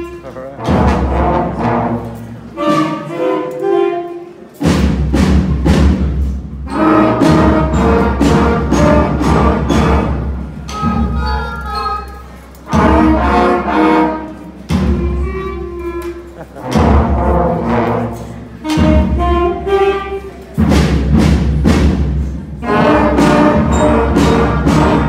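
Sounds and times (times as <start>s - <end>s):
school concert band playing: 0.0s - 25.0s.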